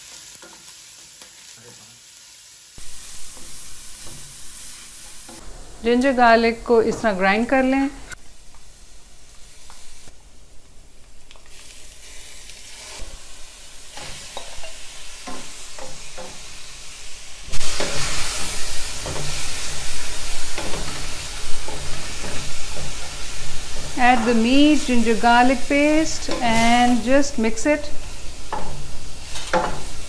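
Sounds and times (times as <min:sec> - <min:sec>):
meat sizzling in oil: 0:00.0 - 0:05.6, 0:07.4 - 0:10.1, 0:11.2 - 0:30.0.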